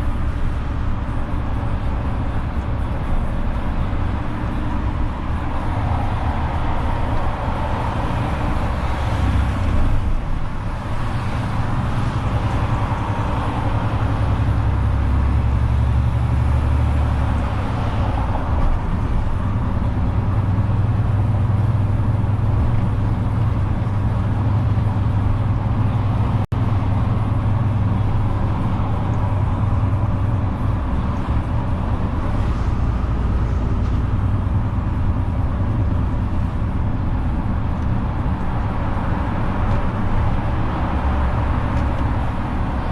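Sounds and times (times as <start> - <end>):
road and traffic noise: 0.0 - 42.9
truck engine running: 0.0 - 42.9.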